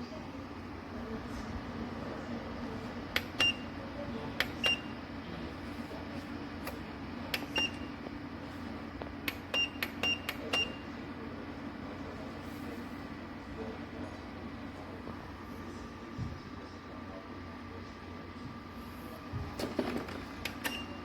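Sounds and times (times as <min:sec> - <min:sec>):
fan heater humming: 0:00.0 - 0:21.0.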